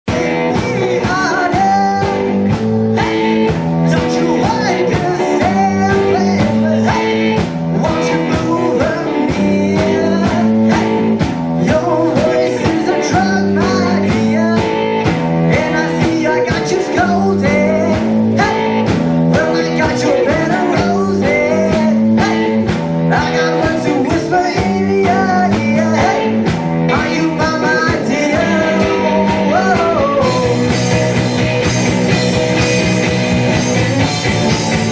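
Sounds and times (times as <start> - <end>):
rock band playing: 0.0 - 34.9.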